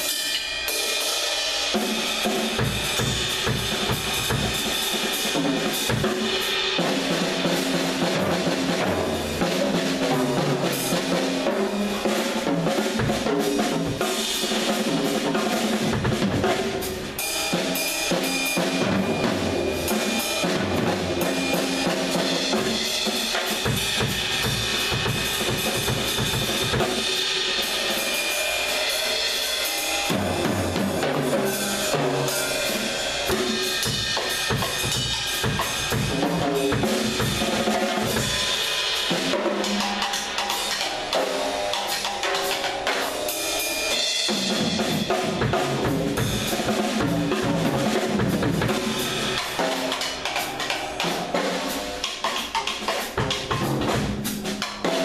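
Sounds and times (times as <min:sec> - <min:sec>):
drum kit playing: 0:00.0 - 0:55.0.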